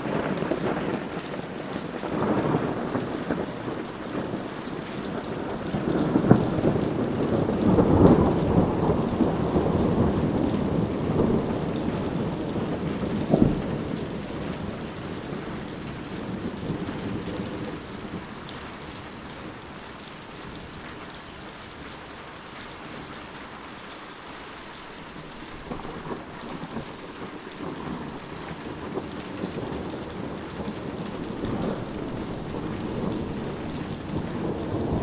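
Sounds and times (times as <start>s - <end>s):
thunder rumbling: 0.0s - 19.9s, 25.2s - 35.0s
steady rain: 0.0s - 35.0s.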